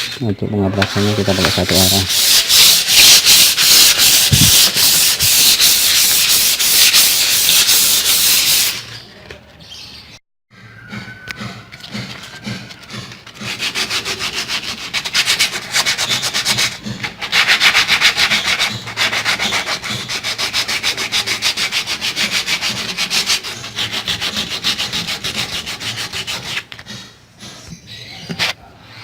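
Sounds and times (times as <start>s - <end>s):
sandpaper rasping on wood: 0.8s - 9.0s, 11.9s - 27.7s.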